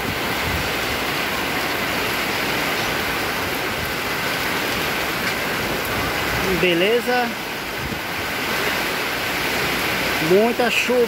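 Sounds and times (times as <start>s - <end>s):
heavy rain on flooded street: 0.0s - 11.0s.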